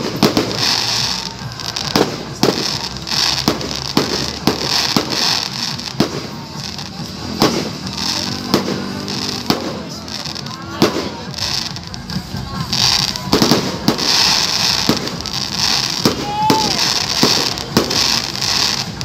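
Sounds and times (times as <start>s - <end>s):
fireworks bursting with sharp bangs: 0.0s - 19.0s
hiss of fireworks: 0.0s - 19.0s.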